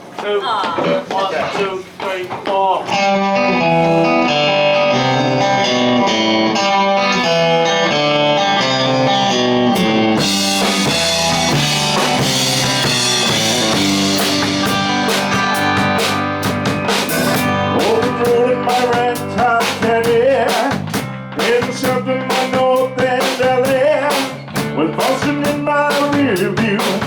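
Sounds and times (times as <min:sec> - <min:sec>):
live band with guitar and drums: 0:00.0 - 0:27.0.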